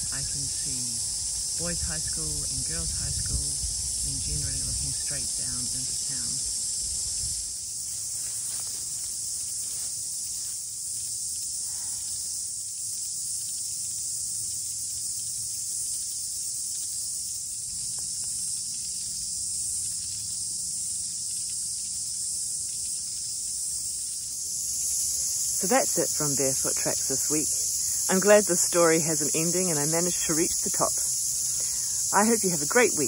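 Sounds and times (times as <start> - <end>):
shrill insect chorus: 0.0 - 33.0.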